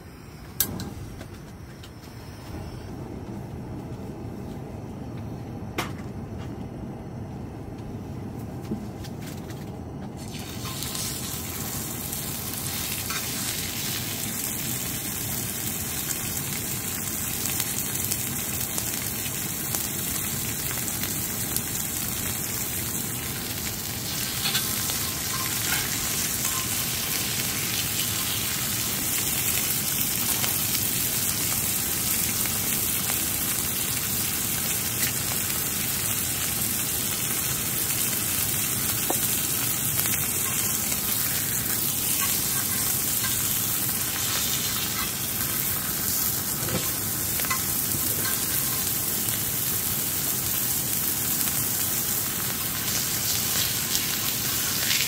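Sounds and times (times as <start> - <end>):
steaks sizzling on griddle: 10.2 - 55.0.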